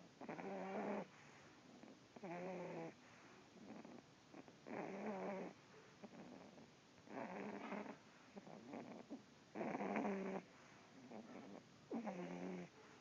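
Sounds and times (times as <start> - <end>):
dog snoring: 0.1 - 3.0, 3.6 - 12.8
soft crackly breathing: 0.2 - 13.0.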